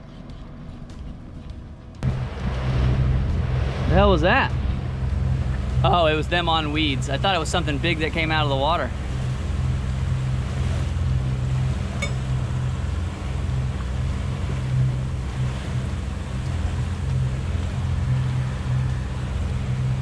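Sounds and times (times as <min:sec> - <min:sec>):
outboard engine humming: 0:00.0 - 0:20.0
water washing along hull: 0:00.0 - 0:20.0.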